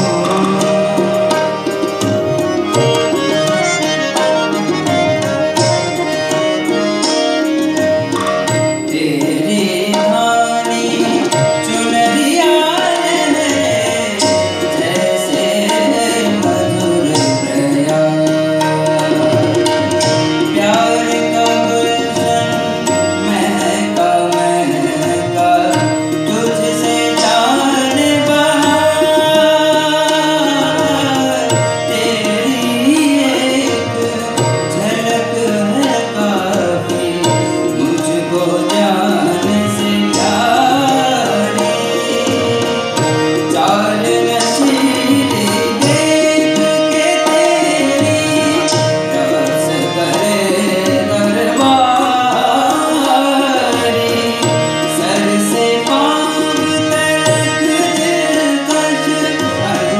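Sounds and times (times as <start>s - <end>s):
man singing: 0.0s - 6.8s, 8.5s - 59.9s
harmonium drone and melody: 0.0s - 59.9s.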